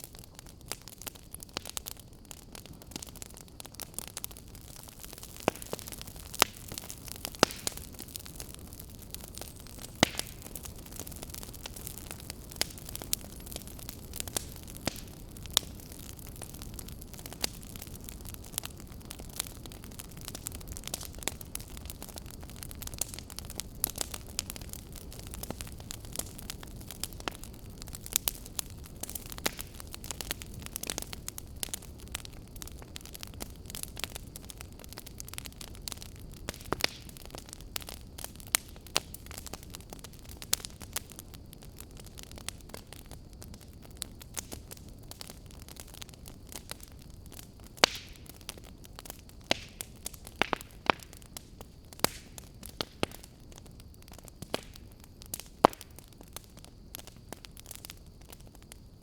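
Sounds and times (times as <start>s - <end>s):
fire crackling and popping: 0.0s - 59.0s
wood fire rumbling: 0.0s - 59.0s.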